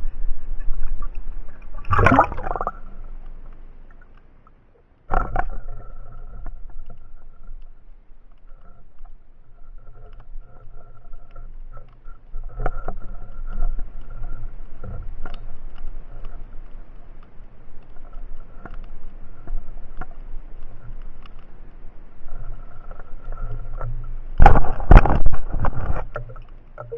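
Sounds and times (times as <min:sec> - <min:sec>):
underwater motorboat drone: 0:00.0 - 0:26.9.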